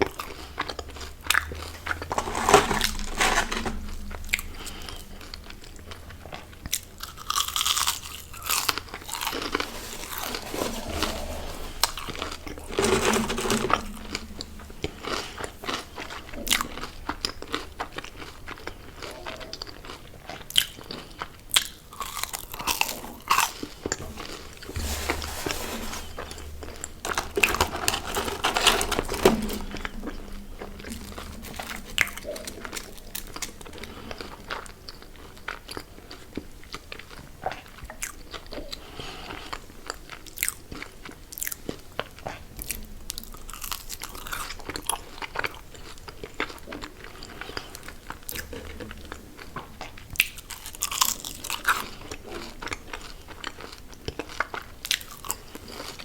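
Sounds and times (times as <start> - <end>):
crunching and chewing food: 0.0 - 56.0.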